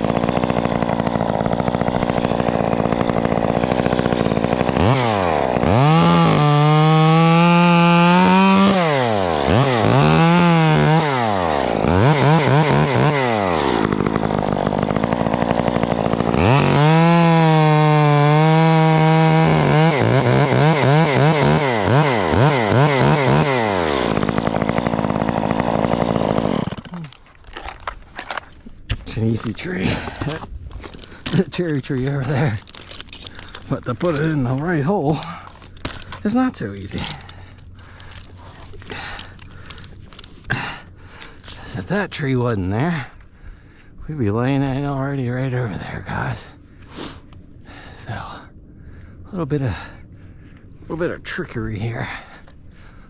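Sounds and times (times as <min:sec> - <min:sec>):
chainsaw idling and revving: 0:00.0 - 0:43.3.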